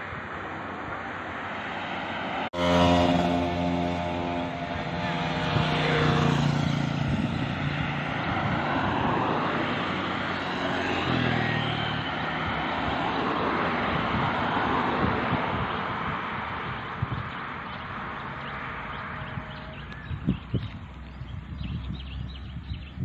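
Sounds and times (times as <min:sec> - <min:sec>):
vehicles passing by: 0:00.0 - 0:23.0.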